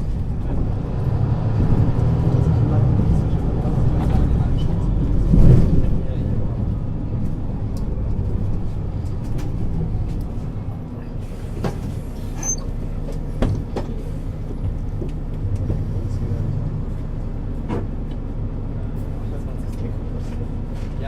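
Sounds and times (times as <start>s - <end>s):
bus engine drone: 0.0s - 21.0s.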